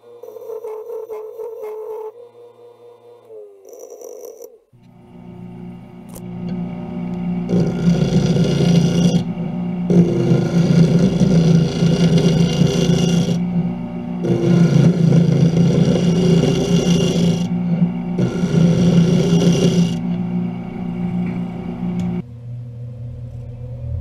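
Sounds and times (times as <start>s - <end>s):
turning tool cutting wood: 0.0s - 2.1s, 3.3s - 22.2s
wood lathe humming: 0.0s - 22.2s.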